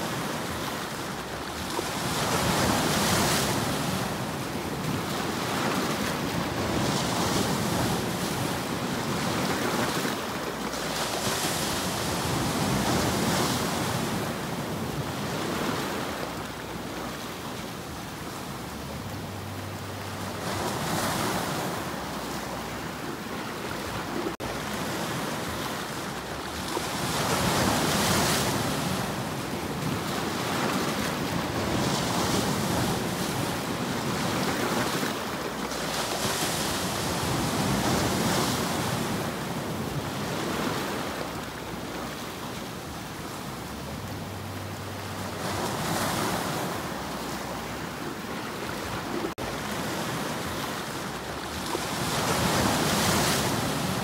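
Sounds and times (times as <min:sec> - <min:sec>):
waves splashing over rocks: 0:00.0 - 0:54.0.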